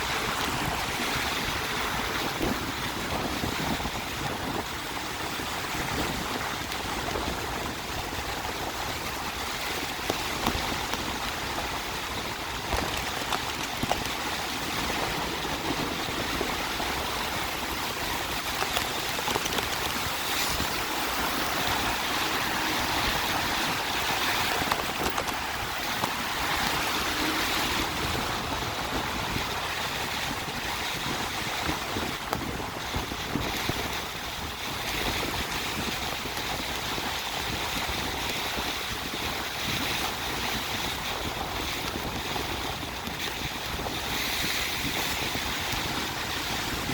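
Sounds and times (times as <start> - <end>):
tyres hissing on wet road: 0.0 - 46.9
wind rumbling on microphone: 0.0 - 46.9.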